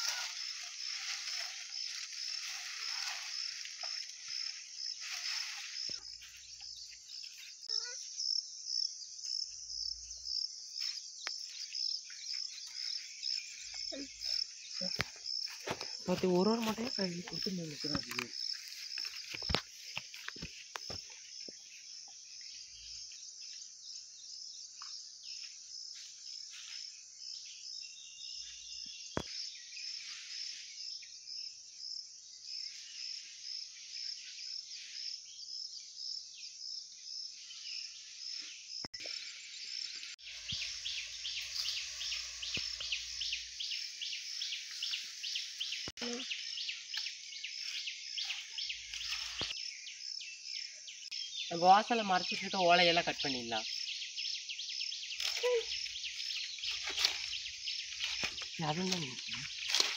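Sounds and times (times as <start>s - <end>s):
insects chirping: 0.0s - 59.9s.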